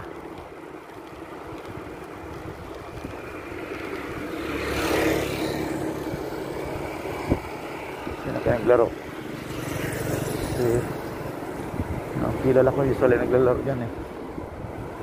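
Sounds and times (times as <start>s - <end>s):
road and wind noise: 0.0s - 15.0s
vehicle passing: 0.8s - 15.0s.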